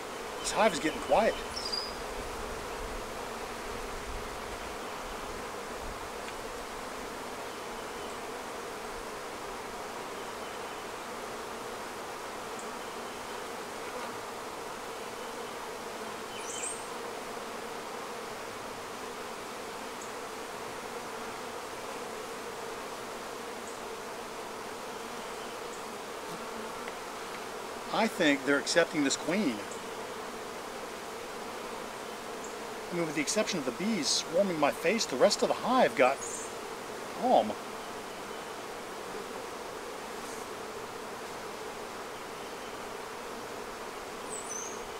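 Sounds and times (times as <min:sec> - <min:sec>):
bees humming: 0:00.0 - 0:44.9.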